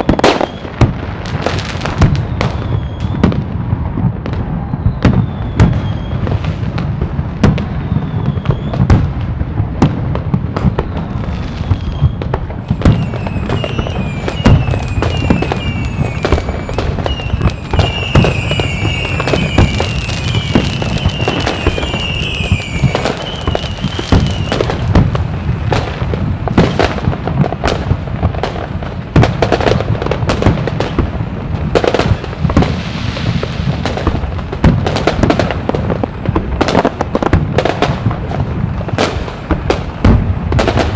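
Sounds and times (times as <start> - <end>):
falling firework whistles: 0.0 - 6.8, 7.4 - 9.2, 10.6 - 28.6, 29.2 - 35.5, 36.2 - 38.0
fireworks bangs and crackles: 0.0 - 40.9.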